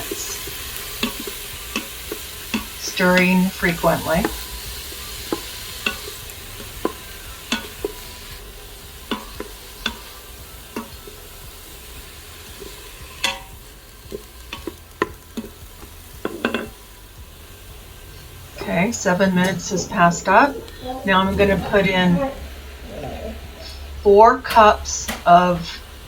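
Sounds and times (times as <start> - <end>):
vegetables sizzling in a pot: 0.0 - 26.0.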